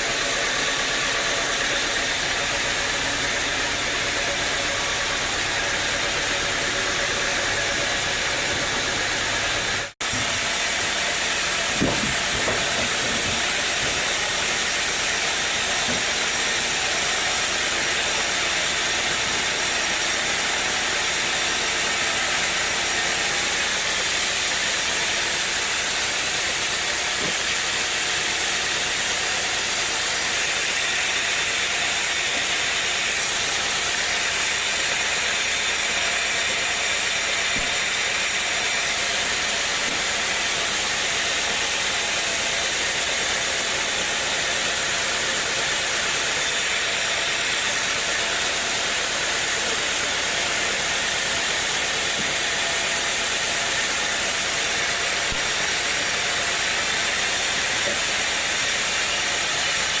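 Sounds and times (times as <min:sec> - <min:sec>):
sawmill machinery hissing: 0:00.0 - 1:00.0.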